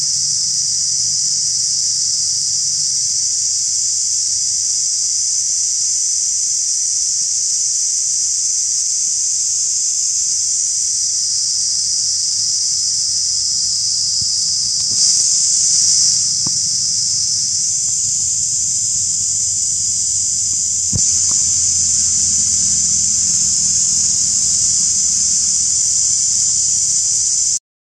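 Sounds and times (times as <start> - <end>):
insects droning: 0.0 - 27.6.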